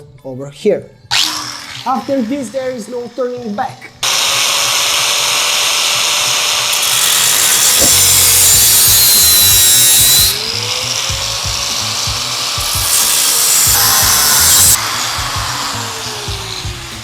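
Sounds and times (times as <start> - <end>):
power tool cutting steel pipe: 1.1 - 17.0.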